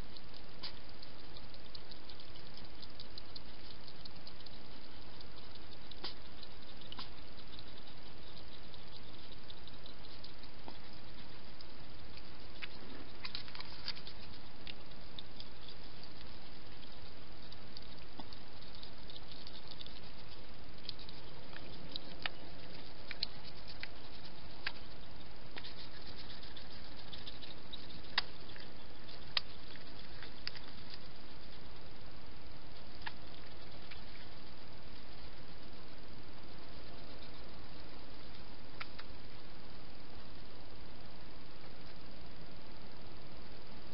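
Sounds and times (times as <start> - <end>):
hedgehogs crunching food: 0.0 - 42.2
steady hiss: 0.0 - 43.9.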